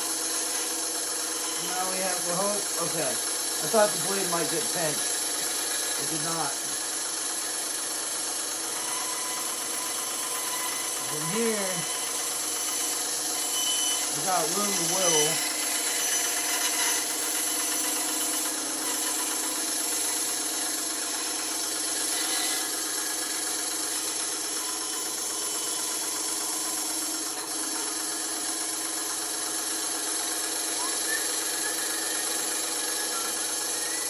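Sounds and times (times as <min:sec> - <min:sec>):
bandsaw cutting wood: 0:00.0 - 0:34.0.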